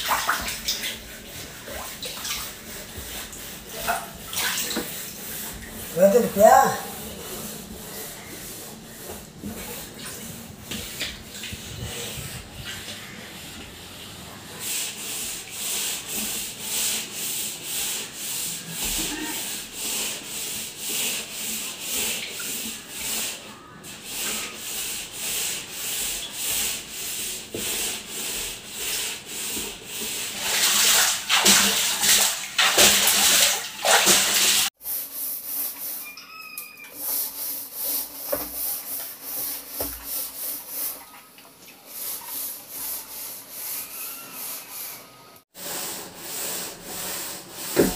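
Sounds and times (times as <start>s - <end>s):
scouring pad scrubbing: 0.0s - 47.9s.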